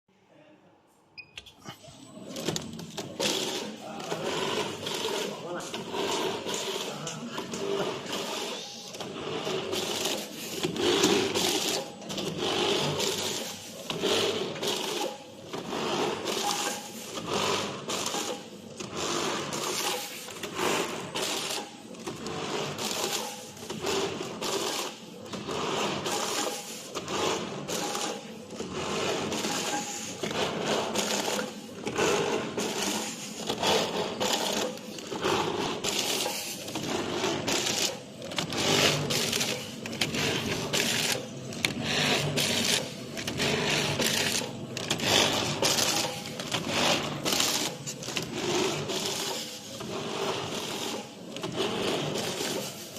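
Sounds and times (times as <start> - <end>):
packaging machine cycling: 2.2 - 52.9.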